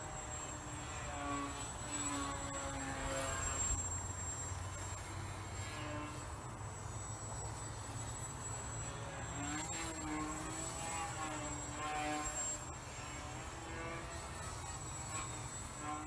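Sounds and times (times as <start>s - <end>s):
rc plane electric motor and propeller: 0.0s - 16.0s.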